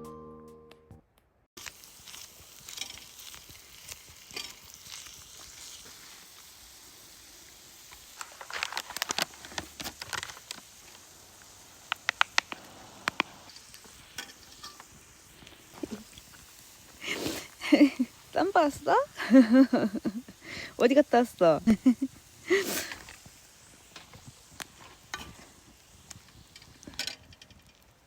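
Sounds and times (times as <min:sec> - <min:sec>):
food sizzling in a frying pan: 0:01.6 - 0:28.0.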